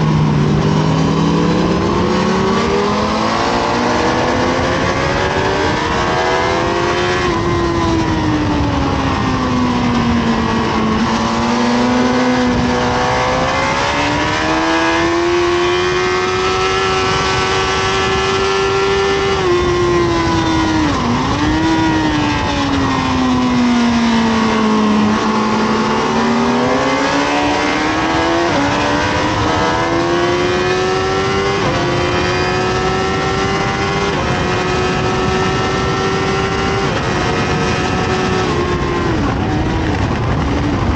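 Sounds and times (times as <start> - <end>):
motorcycle engine revving: 0.0 - 40.9
rushing wind noise: 0.0 - 40.9.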